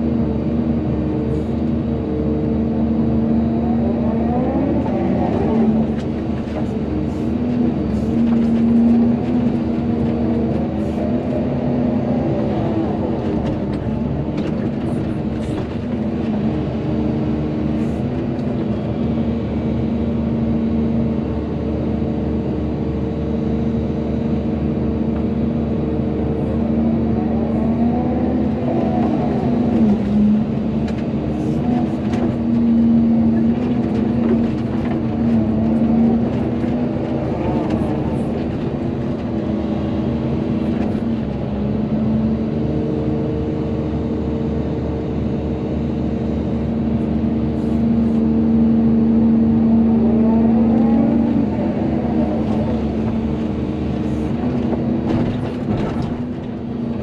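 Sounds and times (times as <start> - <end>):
excavator engine and hydraulics droning: 0.0 - 57.0.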